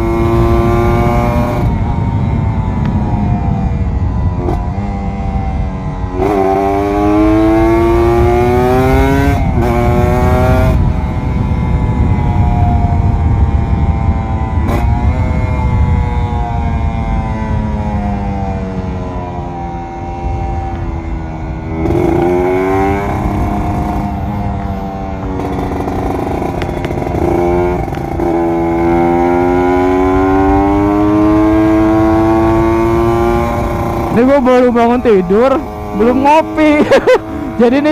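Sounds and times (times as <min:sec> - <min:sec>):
two-stroke motorcycle engine revving: 0:00.0 - 0:37.9
wind rush: 0:00.0 - 0:37.9.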